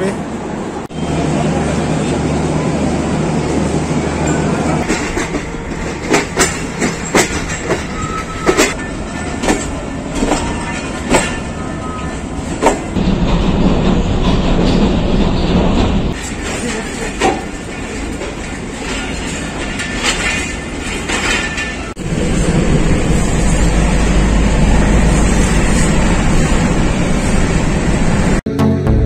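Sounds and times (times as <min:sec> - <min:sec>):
train rumbling on rails: 0:00.0 - 0:28.4.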